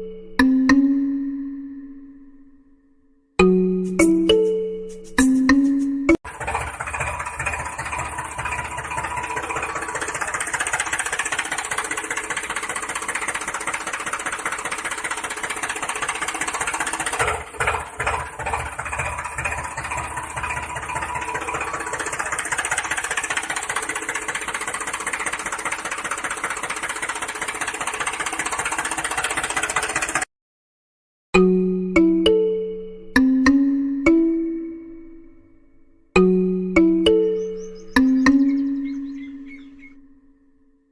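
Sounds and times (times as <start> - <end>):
tractor engine running: 3.4 - 30.3, 31.4 - 40.2.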